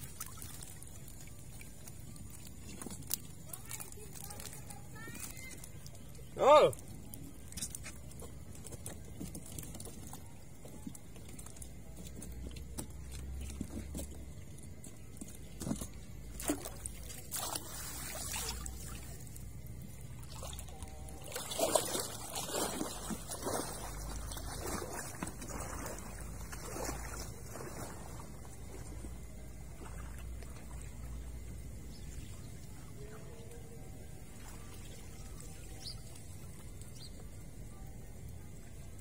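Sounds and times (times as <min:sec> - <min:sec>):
water trickling and sloshing: 0:00.0 - 0:39.0.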